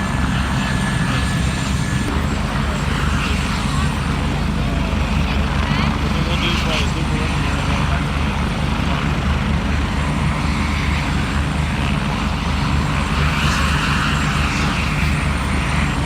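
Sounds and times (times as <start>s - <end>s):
helicopter running: 0.0s - 16.0s.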